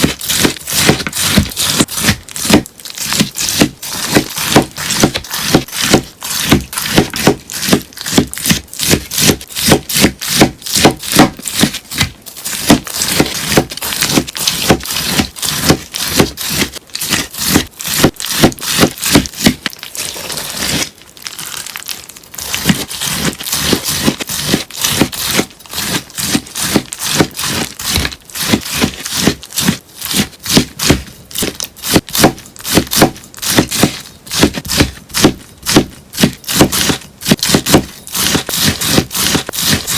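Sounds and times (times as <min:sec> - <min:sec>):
sponge being cut crisply: 0:00.0 - 0:39.9.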